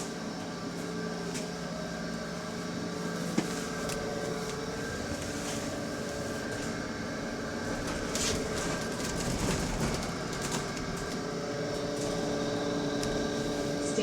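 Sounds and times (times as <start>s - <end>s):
bus interior hum with whining tones: 0.0s - 14.0s.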